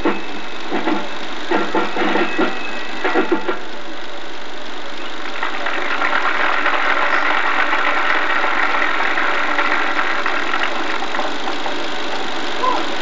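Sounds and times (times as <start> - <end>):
film projector whirring and clattering: 0.0 - 13.0.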